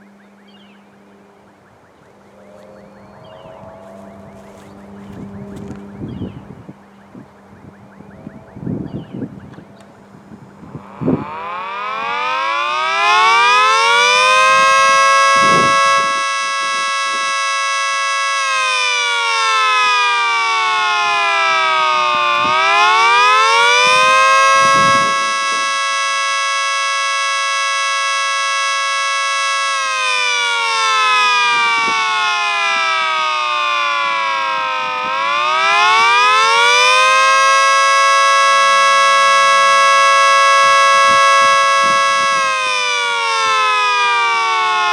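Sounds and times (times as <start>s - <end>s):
three-tone siren wailing: 0.0s - 44.9s.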